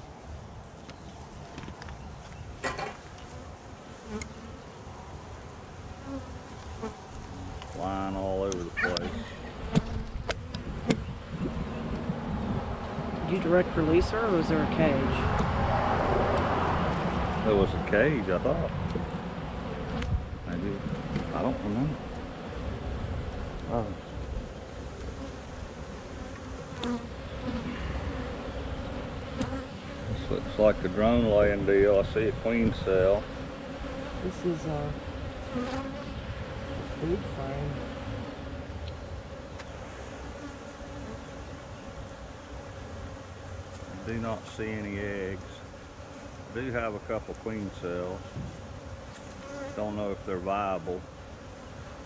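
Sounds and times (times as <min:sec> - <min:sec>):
honeybees buzzing: 0:00.0 - 0:52.0.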